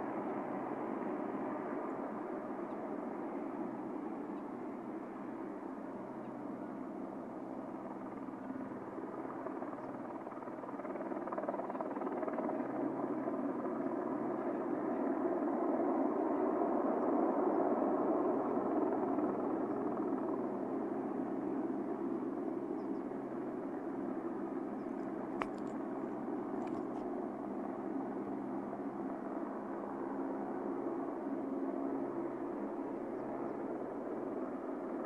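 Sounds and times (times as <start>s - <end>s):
distant helicopter hovering: 0.0s - 35.0s.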